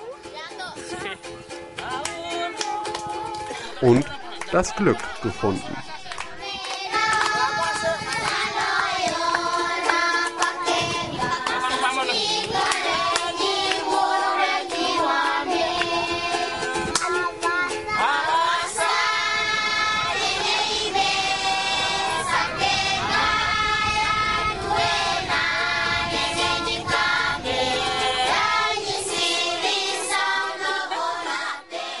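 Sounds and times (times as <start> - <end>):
children singing together: 5.0 - 32.0.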